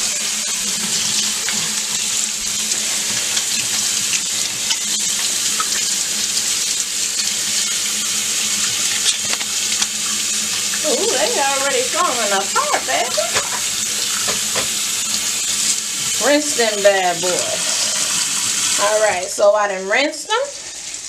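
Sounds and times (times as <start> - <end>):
faucet running into metal sink: 0.0 - 19.3.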